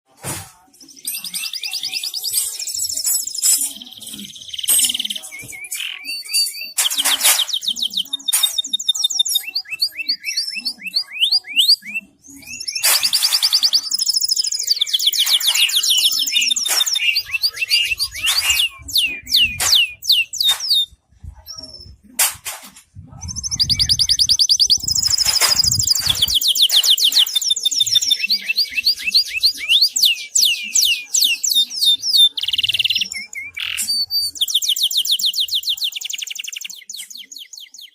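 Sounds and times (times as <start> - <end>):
canary singing trills: 0.8 - 22.0, 23.0 - 37.9.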